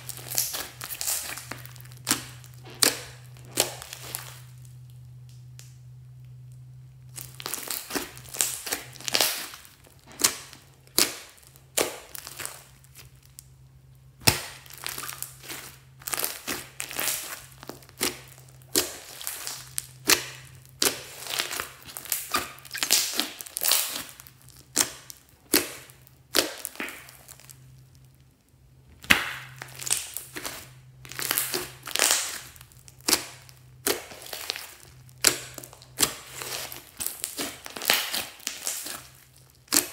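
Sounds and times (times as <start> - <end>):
faint steady hum: 0.0 - 39.9
slime crackling and popping: 0.0 - 39.9.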